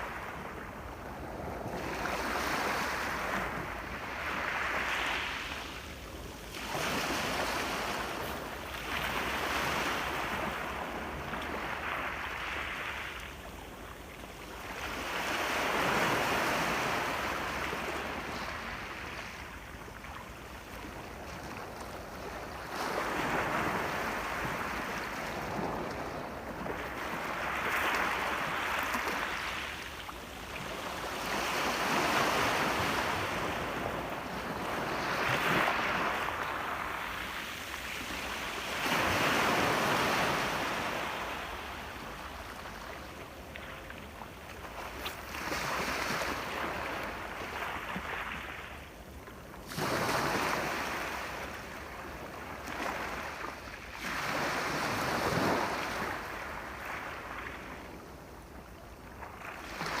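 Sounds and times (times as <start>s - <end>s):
ocean waves breaking on shore: 0.0s - 60.0s.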